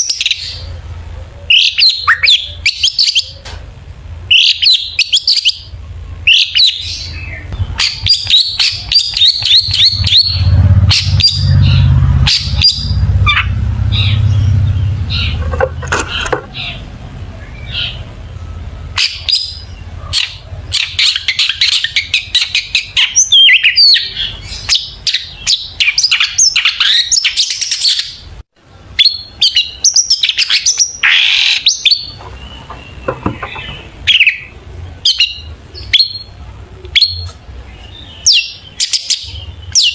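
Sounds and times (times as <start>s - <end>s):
bird singing rapid chirps: 0.0s - 3.5s, 4.3s - 28.3s, 28.9s - 39.9s.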